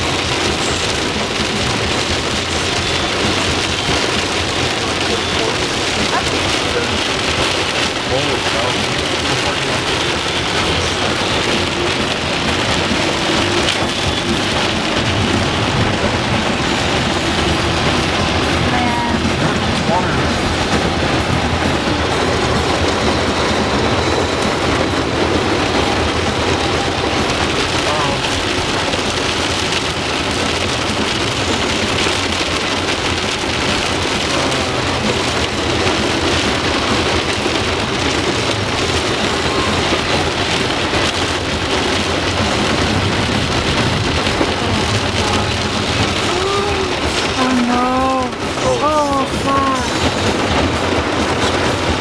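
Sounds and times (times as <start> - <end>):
heavy rain on a car: 0.0 - 52.0.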